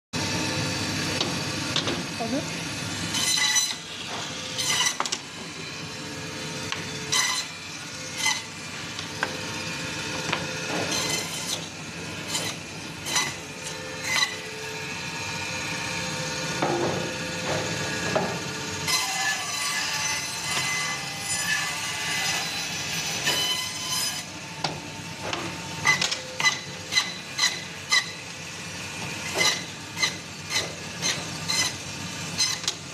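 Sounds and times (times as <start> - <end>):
band saw cutting meat: 0.2 - 32.9.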